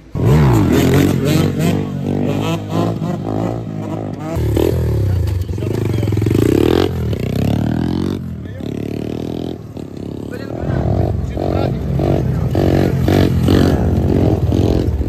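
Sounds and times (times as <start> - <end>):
pit bike engines revving: 0.0 - 15.0.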